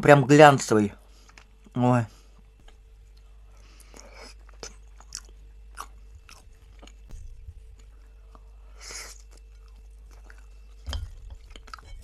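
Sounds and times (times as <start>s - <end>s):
person chewing soft food: 1.1s - 12.0s.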